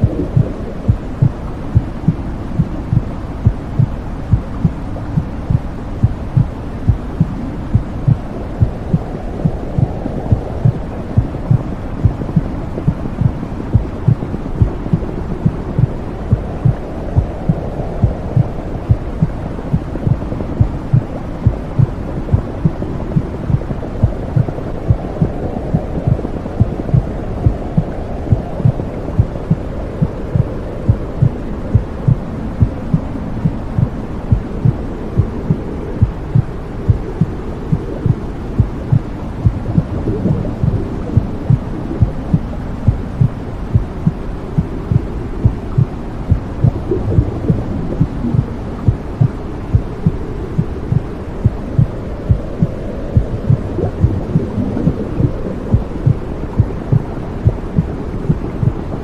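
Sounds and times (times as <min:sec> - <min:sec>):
heartbeat thumping: 0:00.0 - 0:58.9
muffled whooshing rumble: 0:00.0 - 0:59.0.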